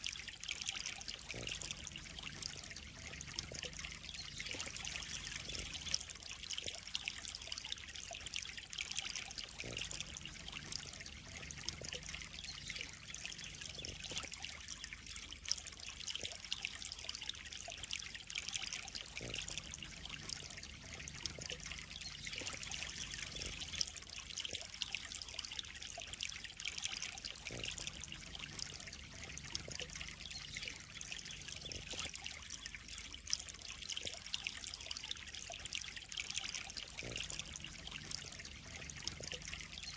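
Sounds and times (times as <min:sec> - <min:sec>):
pond water trickling and splashing: 0:00.0 - 0:39.9.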